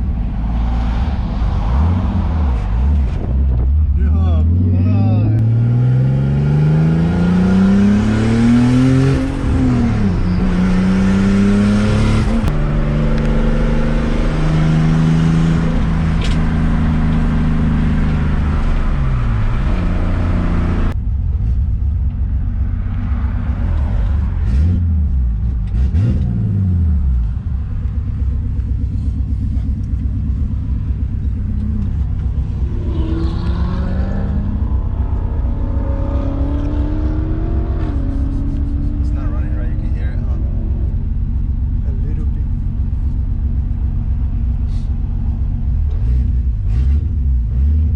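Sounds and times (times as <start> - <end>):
car engine accelerating through gears: 0.0 - 21.6, 22.9 - 47.9.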